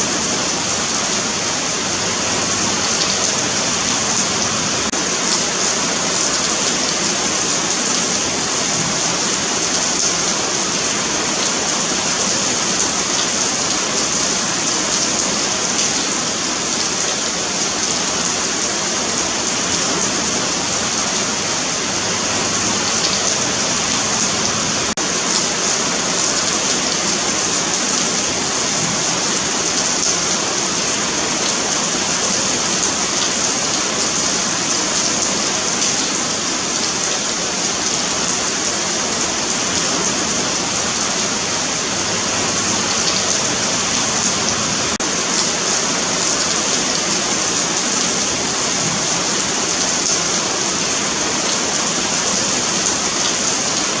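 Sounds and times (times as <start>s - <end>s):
rain falling on pavement: 0.0s - 54.0s.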